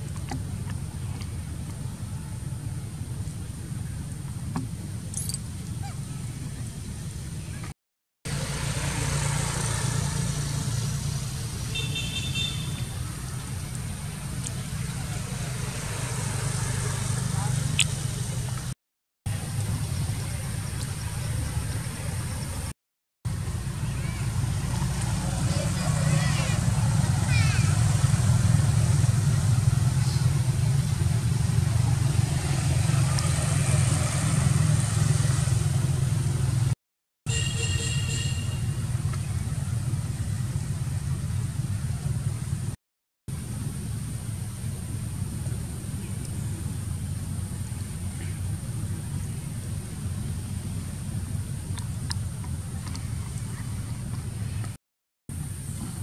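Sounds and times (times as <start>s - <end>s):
engine running with low hum: 0.0s - 22.7s, 23.3s - 56.0s
low outdoor rumble: 0.0s - 22.7s, 23.3s - 36.8s, 38.3s - 56.0s.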